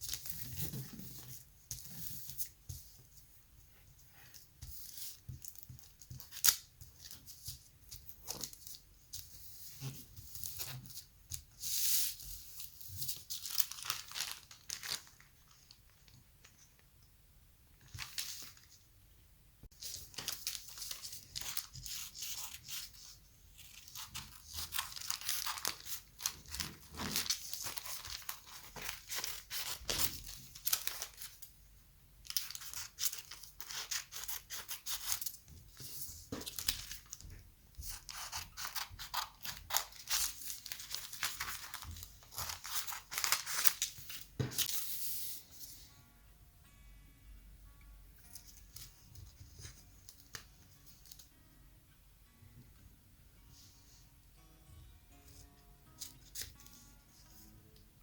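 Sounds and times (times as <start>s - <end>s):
paper and tape crackling: 0.0s - 3.2s, 4.2s - 16.8s, 17.8s - 18.8s, 19.7s - 31.5s, 32.2s - 45.7s, 48.2s - 51.3s, 55.3s - 57.6s.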